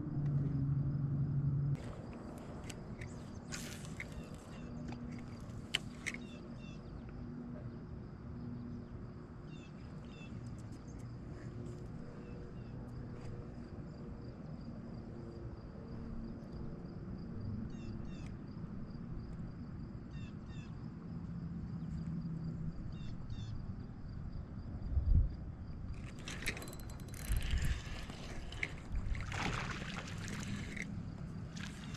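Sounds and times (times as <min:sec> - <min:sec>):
low outdoor rumble: 0:00.0 - 0:31.9.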